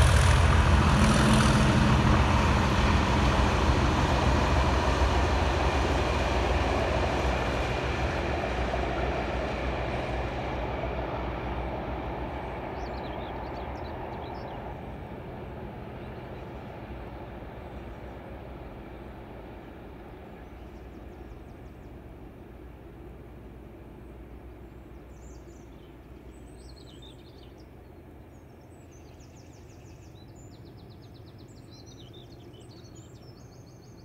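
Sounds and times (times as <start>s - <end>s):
diesel locomotive engine: 0.0s - 34.0s.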